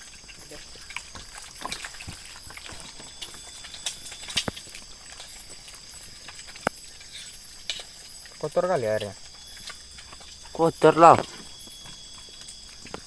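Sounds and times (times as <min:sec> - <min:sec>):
eggs frying in oil: 0:00.0 - 0:13.0
high-pitched insect drone: 0:00.0 - 0:13.0
oil popping and crackling: 0:00.0 - 0:13.0.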